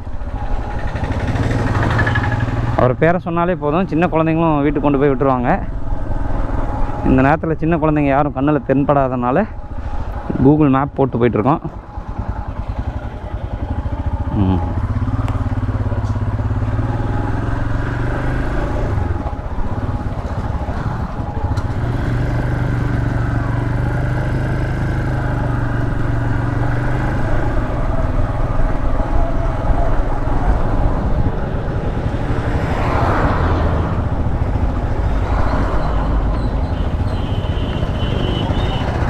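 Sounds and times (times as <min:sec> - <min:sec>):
motorcycle engine running: 0:00.0 - 0:05.1, 0:11.4 - 0:39.0.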